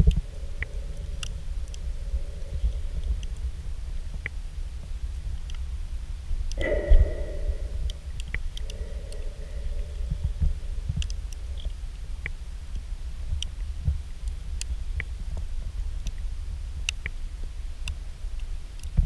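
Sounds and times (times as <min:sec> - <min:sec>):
steady low underwater rumble: 0:00.0 - 0:16.8
faint hum: 0:00.0 - 0:19.0.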